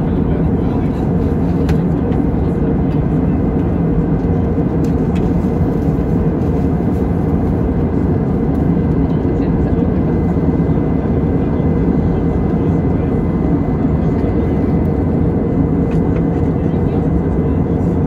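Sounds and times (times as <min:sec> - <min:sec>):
jet engines and rushing air: 0:00.0 - 0:18.0.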